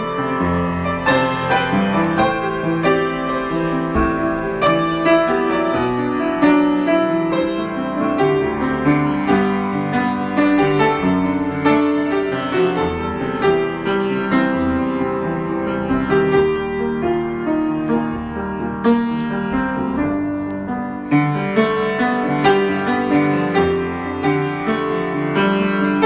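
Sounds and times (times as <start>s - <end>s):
solo piano improvisation: 0.0s - 26.0s.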